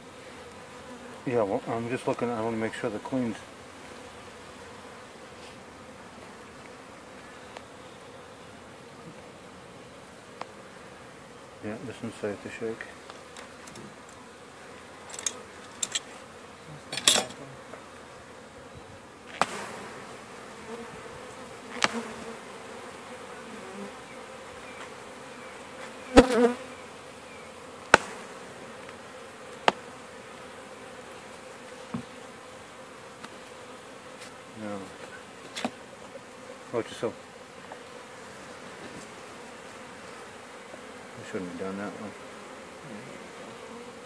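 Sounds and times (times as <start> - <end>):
honeybees humming: 0.0 - 44.0.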